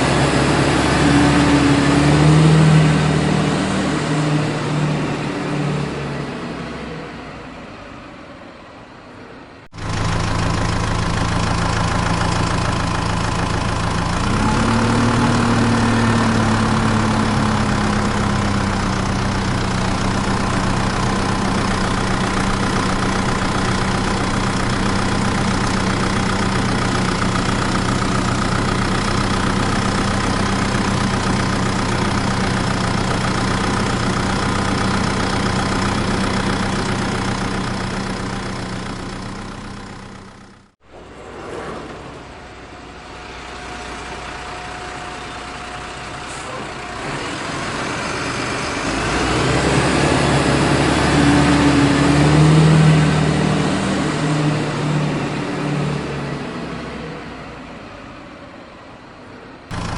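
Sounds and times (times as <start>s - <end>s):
heavy engine idling and revving: 0.0s - 59.9s
vehicle engine: 0.0s - 59.9s.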